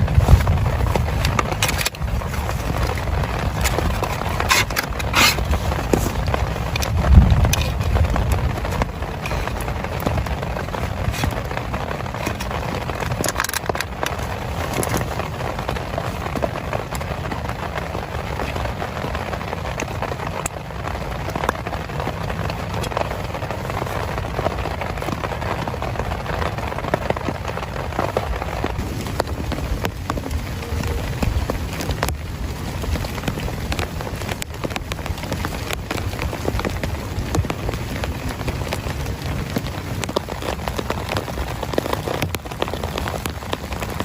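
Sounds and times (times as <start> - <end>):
heavy rain: 0.0 - 44.0
raindrop impacts: 0.0 - 44.0.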